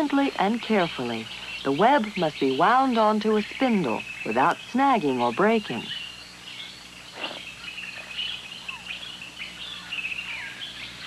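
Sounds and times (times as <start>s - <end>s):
faint steady hum: 0.0s - 11.0s
jungle birds chirping: 0.0s - 11.0s.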